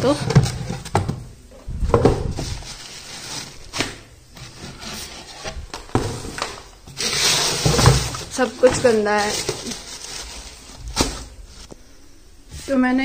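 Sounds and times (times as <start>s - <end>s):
items rubbing and scraping: 0.0s - 11.8s.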